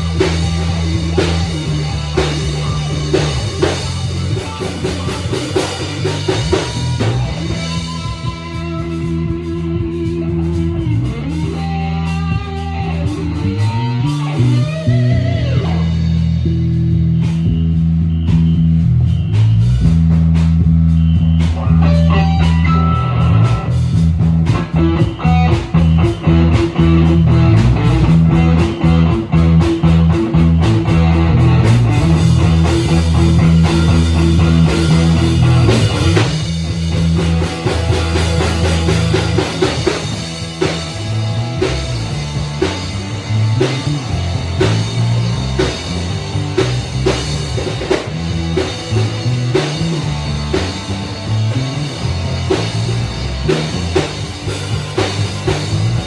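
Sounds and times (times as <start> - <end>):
bass guitar low notes: 0.0 - 56.0
drum kit: 0.0 - 56.0
electric guitar: 0.0 - 56.0.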